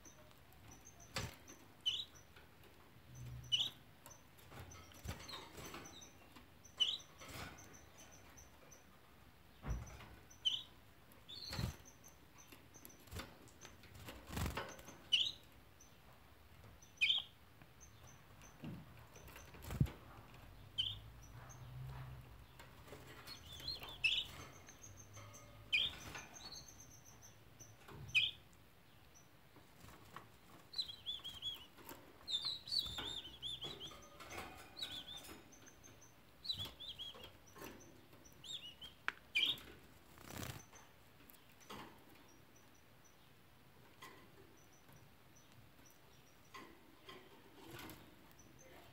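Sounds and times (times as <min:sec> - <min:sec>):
canaries chirping: 0:00.0 - 0:48.9.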